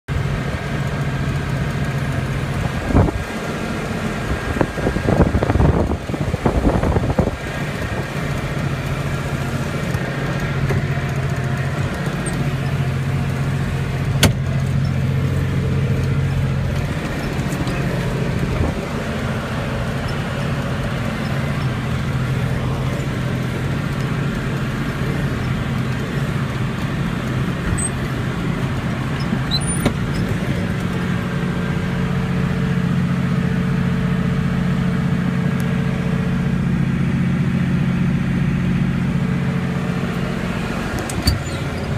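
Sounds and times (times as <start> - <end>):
vehicle engine hum: 0.0 - 41.9.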